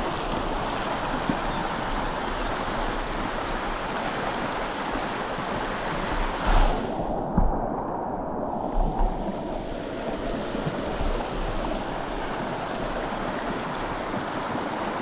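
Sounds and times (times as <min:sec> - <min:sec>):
river water rushing: 0:00.0 - 0:07.0, 0:08.5 - 0:15.0
wind buffeting microphone: 0:00.0 - 0:15.0.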